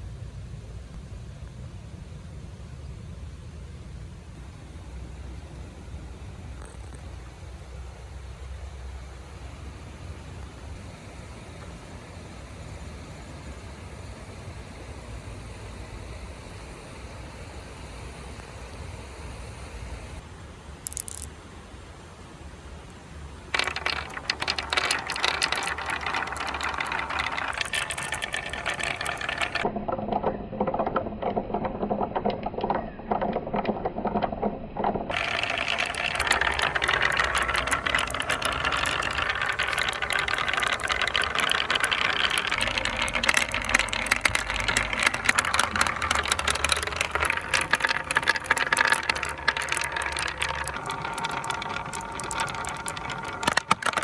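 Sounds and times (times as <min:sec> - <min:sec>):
marbles rolling on a track: 0:04.4 - 0:16.7, 0:19.8 - 0:21.3, 0:23.5 - 0:54.0.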